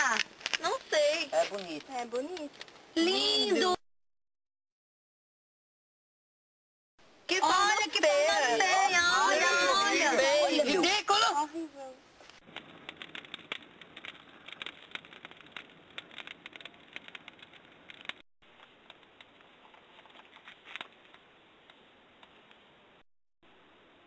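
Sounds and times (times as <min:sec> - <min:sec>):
wood fire crackling: 0:00.0 - 0:03.8, 0:07.3 - 0:23.0.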